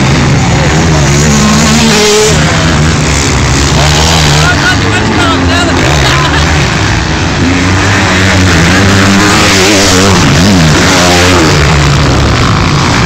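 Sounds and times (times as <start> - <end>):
loud steady rushing: 0.0 - 13.0
motocross bikes revving: 0.0 - 13.0.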